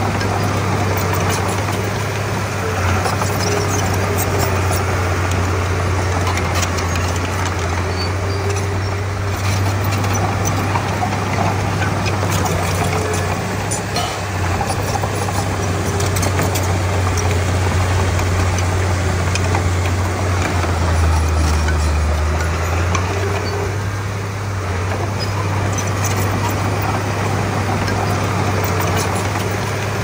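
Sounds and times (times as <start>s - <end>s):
bulldozer diesel engine droning: 0.0s - 30.0s.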